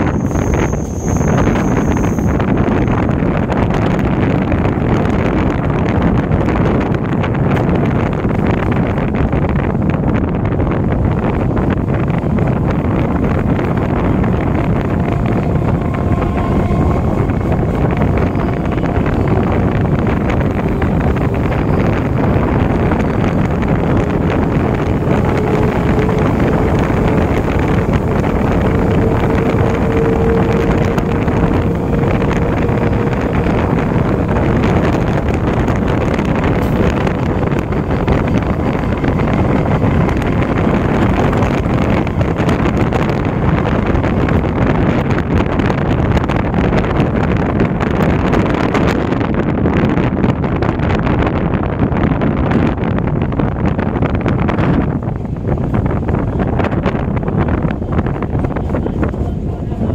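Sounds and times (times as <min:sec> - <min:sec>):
train rumbling in motion: 0:00.0 - 0:59.9
wind buffeting microphone: 0:00.0 - 0:59.9.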